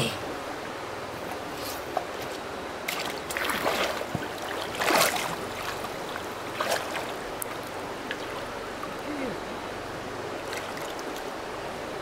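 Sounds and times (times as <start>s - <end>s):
steady watery background: 0.0s - 12.0s
water splashing and sloshing: 0.4s - 12.0s.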